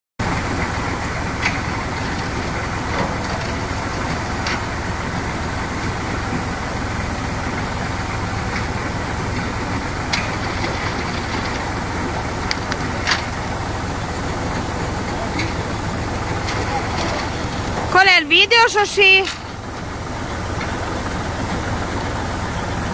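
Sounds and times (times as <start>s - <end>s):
tractor engine running: 0.2s - 22.9s.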